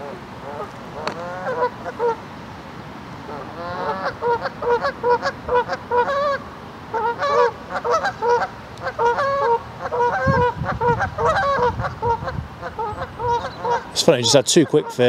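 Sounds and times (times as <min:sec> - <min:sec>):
geese honking: 0:00.0 - 0:02.2, 0:03.3 - 0:15.0.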